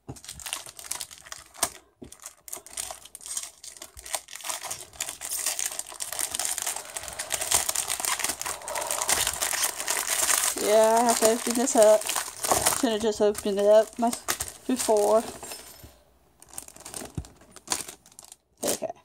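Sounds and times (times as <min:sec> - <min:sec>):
crinkly packaging being opened: 0:00.1 - 0:18.8.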